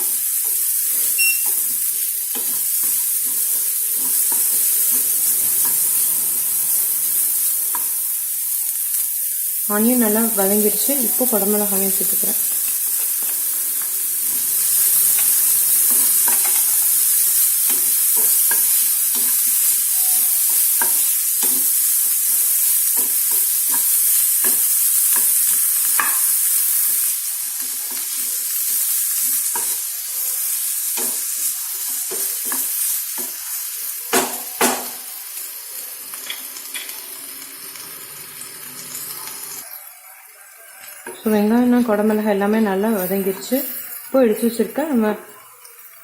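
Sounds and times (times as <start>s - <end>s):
vegetables sizzling in a frying pan: 0.0s - 46.0s.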